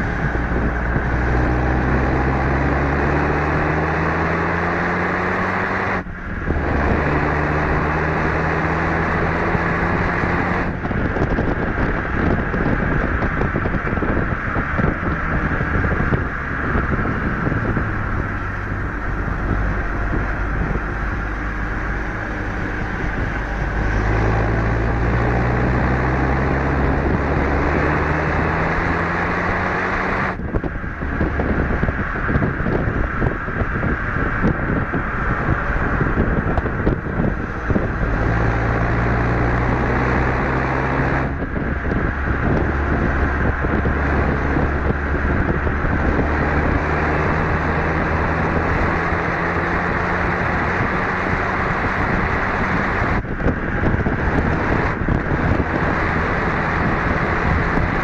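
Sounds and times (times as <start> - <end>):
car engine revving through gears: 0.0 - 58.0
wind and road noise: 0.0 - 58.0.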